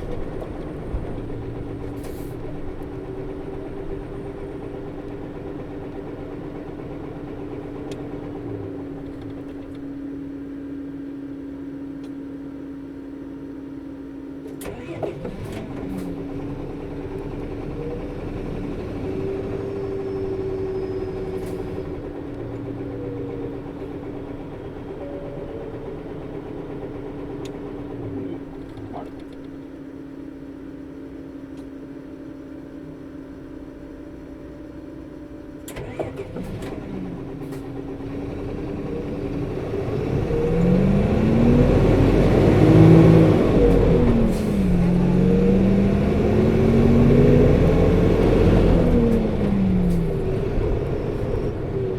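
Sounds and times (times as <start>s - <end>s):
bus diesel engine: 0.0s - 51.9s.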